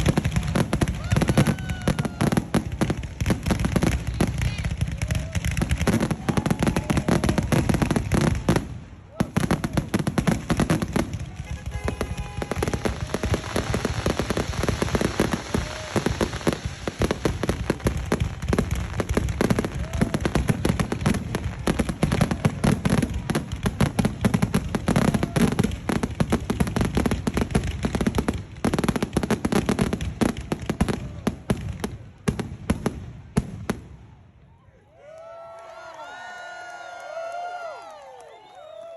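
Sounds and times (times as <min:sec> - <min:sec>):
fireworks booming and crackling: 0:00.0 - 0:34.3.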